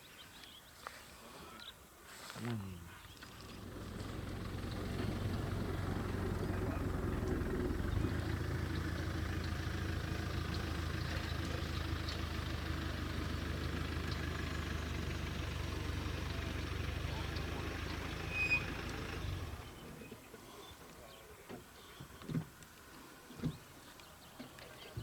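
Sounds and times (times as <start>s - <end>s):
vehicle engine humming: 3.2s - 25.0s.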